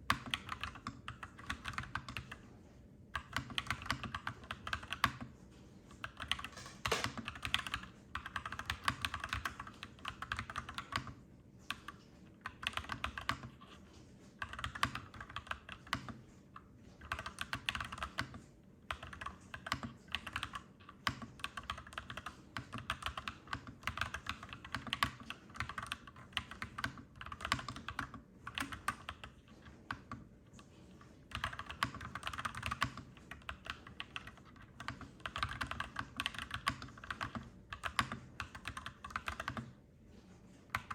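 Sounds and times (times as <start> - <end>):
mechanical keyboard typing: 0.1 - 2.4, 3.1 - 5.3, 5.9 - 13.8, 14.4 - 16.3, 17.0 - 39.8, 40.7 - 40.9.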